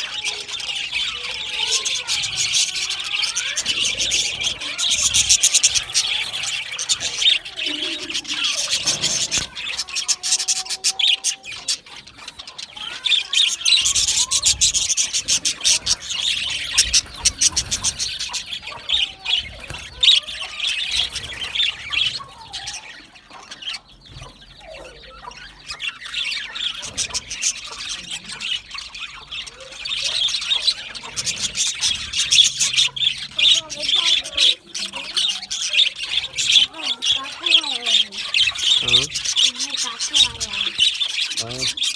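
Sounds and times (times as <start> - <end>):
budgerigars chirping: 0.0 - 41.9.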